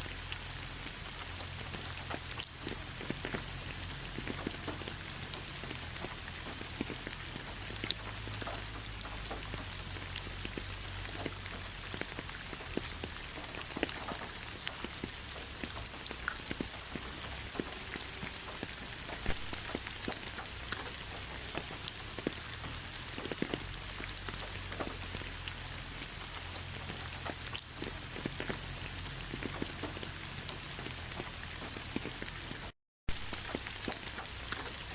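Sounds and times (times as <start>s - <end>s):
rain falling on leaves: 0.0s - 34.9s.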